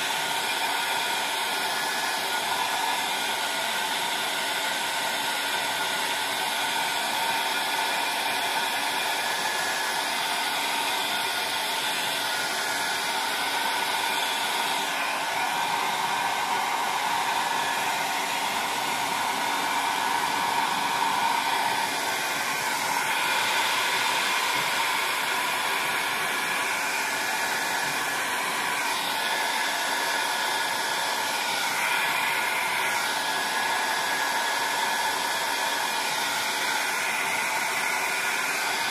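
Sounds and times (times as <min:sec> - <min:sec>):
electric blower motor whirring: 0:00.0 - 0:38.9.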